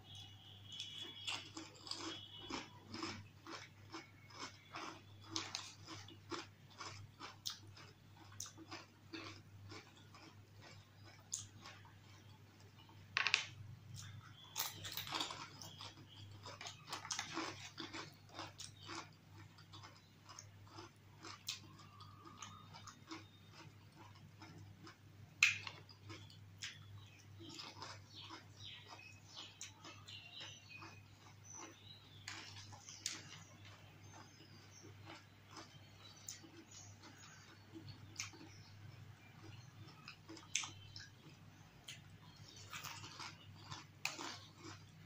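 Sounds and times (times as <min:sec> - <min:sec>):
chewing crunchy wet food: 0:00.0 - 0:45.0.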